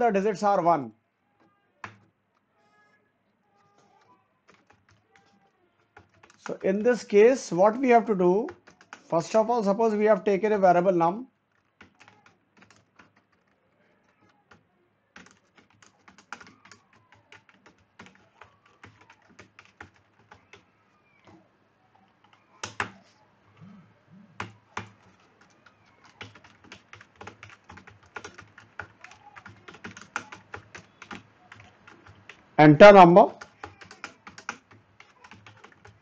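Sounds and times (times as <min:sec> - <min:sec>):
computer keyboard typing: 0:01.8 - 0:02.1, 0:03.6 - 0:36.0.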